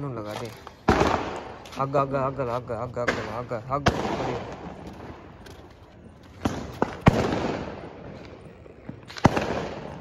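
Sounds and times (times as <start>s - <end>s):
firecrackers banging: 0.0s - 10.0s
rolling echo: 0.0s - 10.0s.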